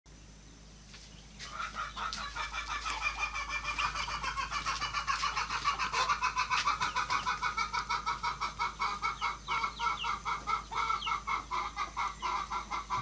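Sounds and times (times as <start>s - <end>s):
chickens calling: 0.6s - 13.0s.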